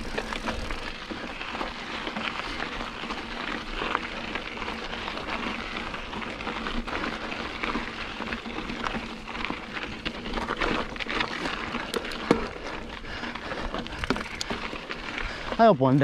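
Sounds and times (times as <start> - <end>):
bike rattling: 0.0 - 16.0
bike tyres crunching on dirt: 0.0 - 16.0.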